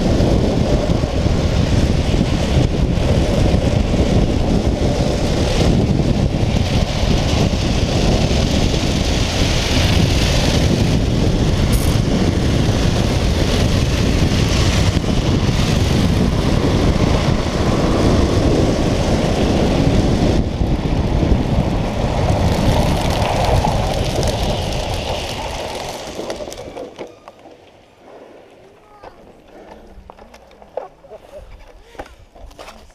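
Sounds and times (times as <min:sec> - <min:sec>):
trike wheels rumbling on asphalt: 0:00.0 - 0:32.9
wind buffeting microphone: 0:00.0 - 0:32.9.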